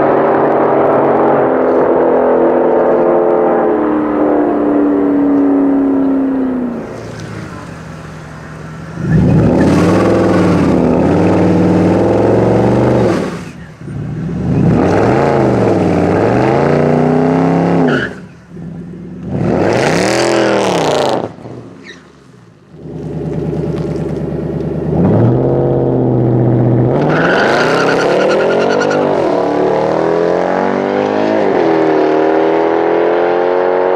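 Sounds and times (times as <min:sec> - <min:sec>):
car engine accelerating hard: 0:00.0 - 0:21.8, 0:22.7 - 0:33.9.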